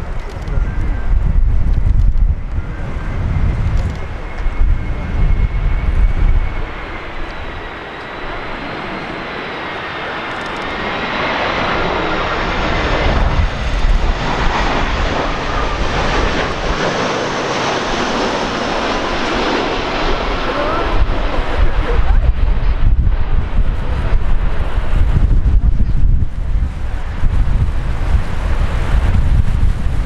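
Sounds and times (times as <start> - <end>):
jet engine whine: 0.0 - 30.0
wind buffeting microphone: 0.0 - 30.0.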